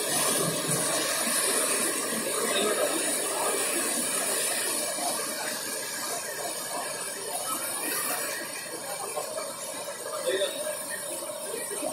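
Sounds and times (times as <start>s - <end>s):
cars ploughing through floodwater: 0.0s - 11.9s.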